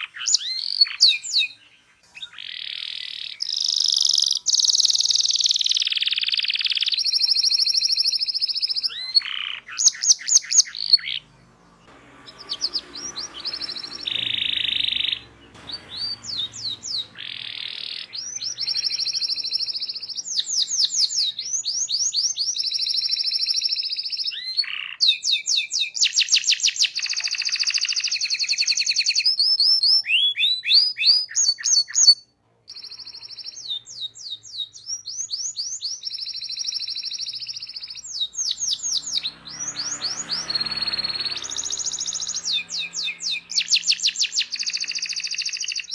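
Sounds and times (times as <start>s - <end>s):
canary singing: 0.0s - 45.9s.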